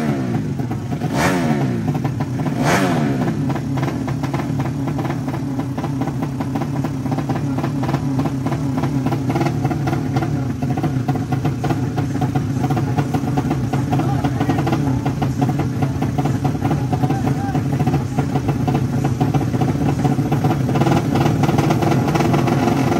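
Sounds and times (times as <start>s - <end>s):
motorcycle engines idling: 0.0s - 22.9s.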